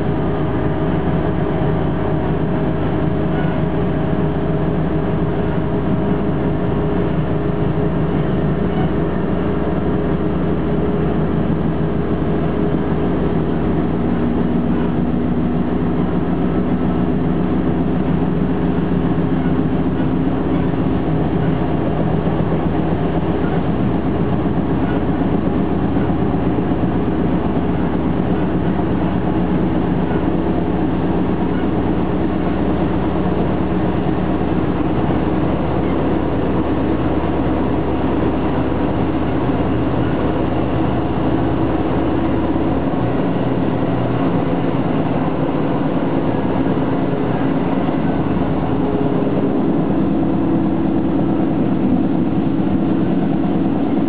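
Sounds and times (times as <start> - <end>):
diesel engine drone: 0.0 - 54.0
wheels rumbling on rail: 0.0 - 54.0.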